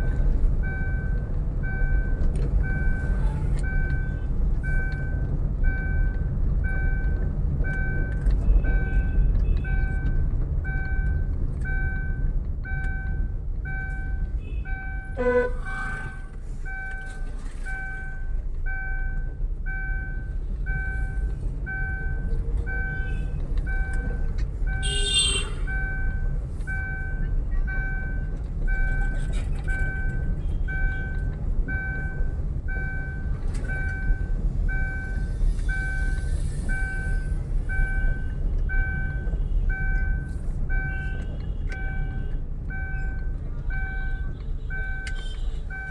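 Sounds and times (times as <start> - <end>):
vehicle engine rumble: 0.0 - 45.9.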